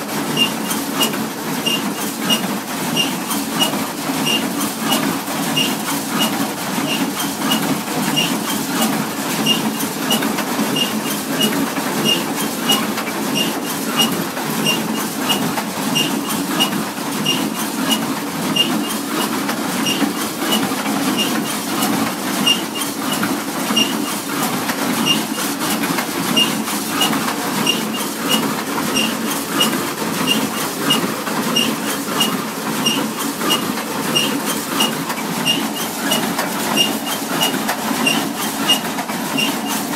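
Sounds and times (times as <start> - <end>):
baler mechanism clacking: 0.4 - 39.9.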